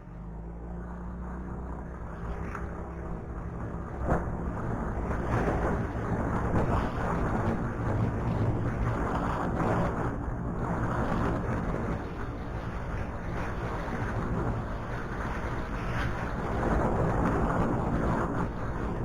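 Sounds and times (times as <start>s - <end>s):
wind rushing on microphone: 1.1s - 19.0s.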